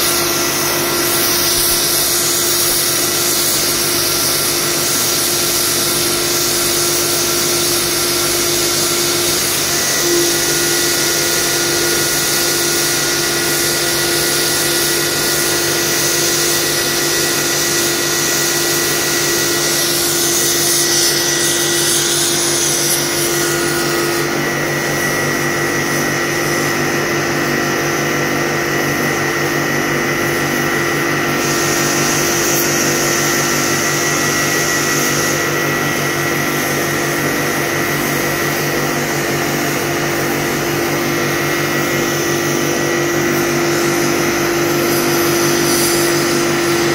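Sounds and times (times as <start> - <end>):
cutting torch hissing: 0.0 - 27.6, 30.1 - 46.9.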